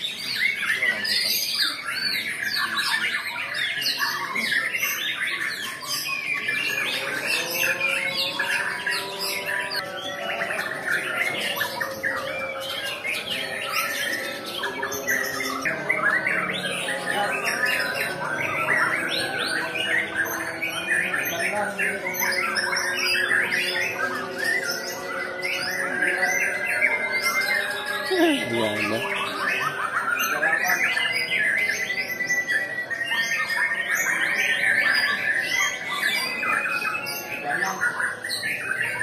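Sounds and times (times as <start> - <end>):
many birds singing: 0.0 - 39.0.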